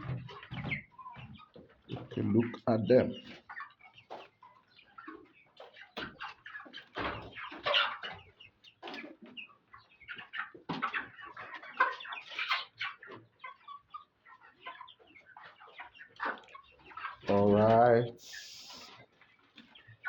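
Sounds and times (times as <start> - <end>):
young chickens clucking and peeping: 0.0 - 20.0.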